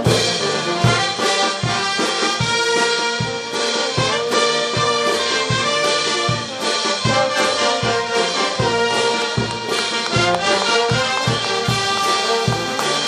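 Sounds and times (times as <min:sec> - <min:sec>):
bass drum beat: 0:00.0 - 0:13.0
brass band music: 0:00.0 - 0:13.0.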